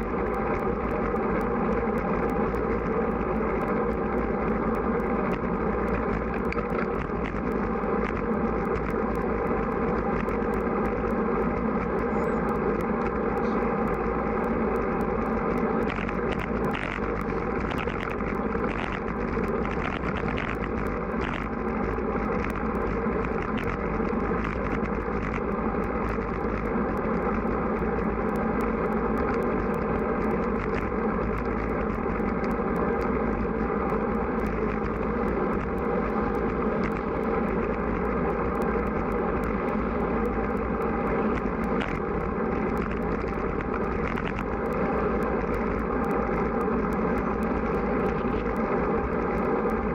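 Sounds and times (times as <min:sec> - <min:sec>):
faint crackle: 0:00.0 - 0:49.9
wind noise on microphone: 0:00.0 - 0:49.9.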